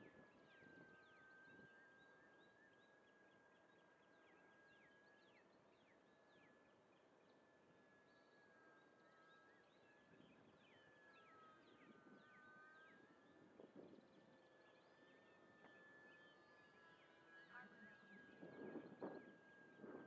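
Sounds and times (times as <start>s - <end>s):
birds chirping: 0.0s - 20.0s
distant model plane motor whine: 0.0s - 20.0s.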